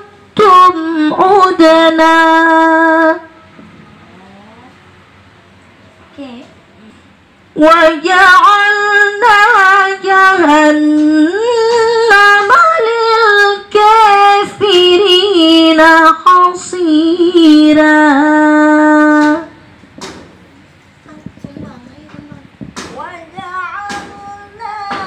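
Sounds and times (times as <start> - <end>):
woman reciting melodically: 0.0 - 3.5, 6.1 - 19.8, 21.0 - 25.0.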